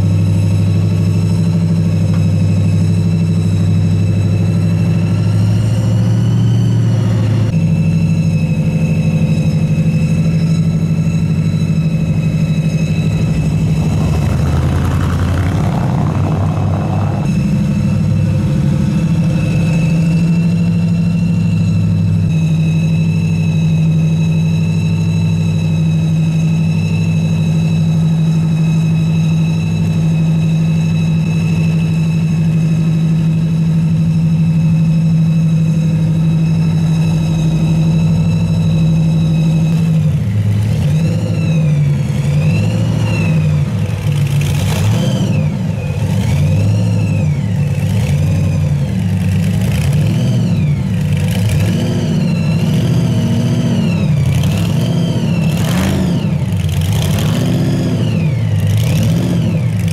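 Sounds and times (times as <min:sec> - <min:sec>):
car engines idling and revving: 0:00.0 - 0:59.9.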